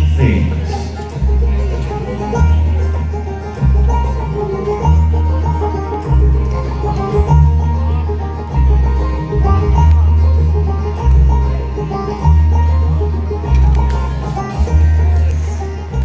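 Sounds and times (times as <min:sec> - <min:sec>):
banjo picking: 0:00.0 - 0:16.0
bass notes: 0:00.0 - 0:16.0.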